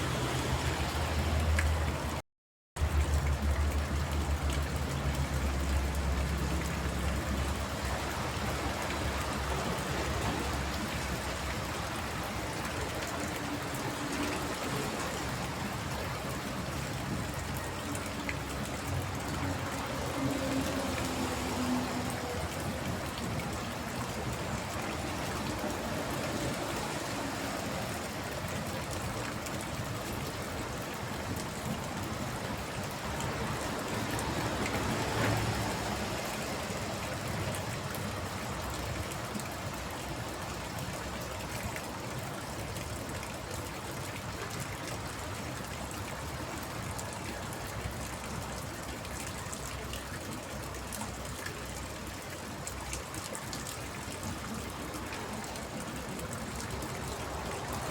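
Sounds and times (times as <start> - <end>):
rain on a water tank: 0.0 - 2.2, 2.8 - 57.9
water trickling: 0.0 - 2.2, 2.8 - 57.9.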